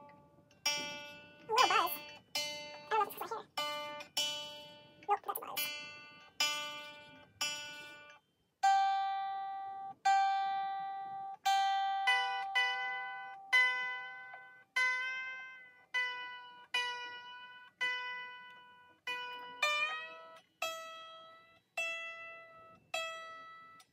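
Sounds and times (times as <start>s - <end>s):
ukulele strings plucked: 0.0s - 23.9s.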